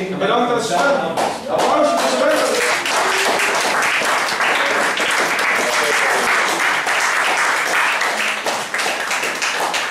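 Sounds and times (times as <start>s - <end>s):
audience applauding: 1.6s - 9.9s.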